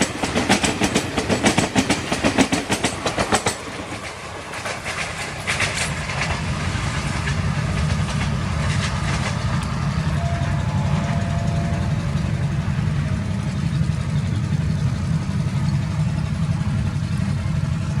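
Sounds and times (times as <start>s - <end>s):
train low rumble: 0.0s - 18.0s
train wheels clicking over rail joints: 0.0s - 18.0s.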